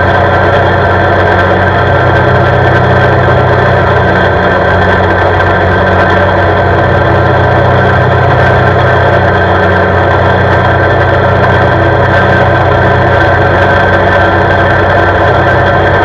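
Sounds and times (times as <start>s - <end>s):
atv engine running steadily: 0.0s - 16.0s.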